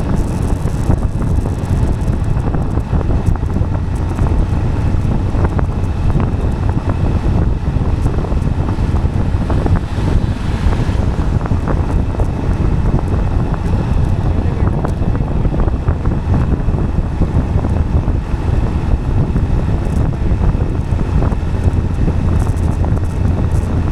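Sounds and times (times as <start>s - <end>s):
low road rumble: 0.0s - 23.9s
wind buffeting microphone: 0.0s - 23.9s.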